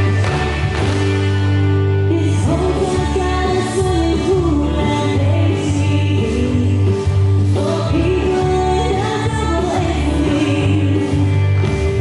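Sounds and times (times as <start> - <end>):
song with lead vocal: 0.0 - 12.0.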